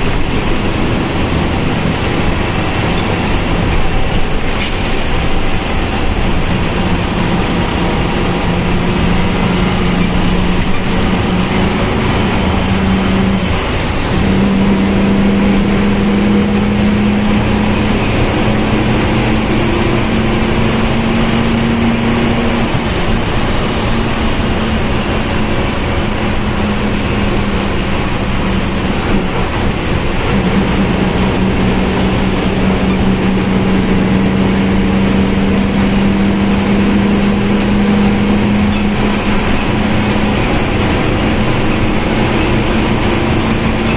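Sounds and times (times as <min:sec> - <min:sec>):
bus engine running: 0:00.0 - 0:43.9
road noise: 0:00.0 - 0:43.9
transmission whining: 0:00.0 - 0:43.9.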